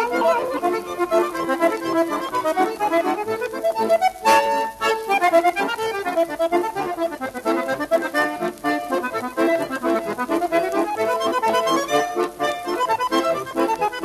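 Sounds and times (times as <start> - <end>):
lively accordion music: 0.0 - 14.0.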